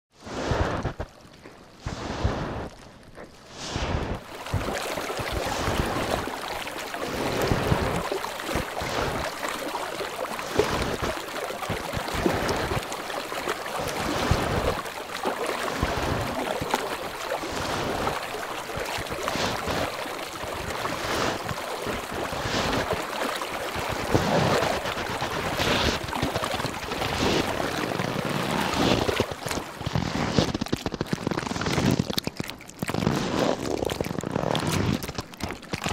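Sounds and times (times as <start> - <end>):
sea ice crackling: 0.2 - 35.9.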